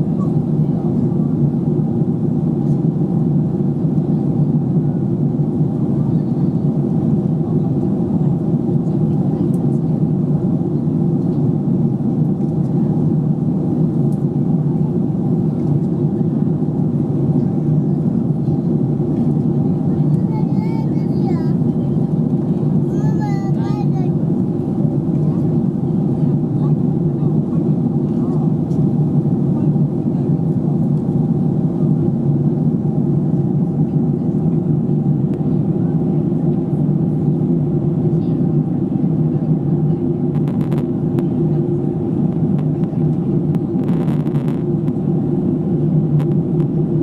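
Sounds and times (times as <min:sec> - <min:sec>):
jet airliner cabin rumble: 0:00.0 - 0:47.0.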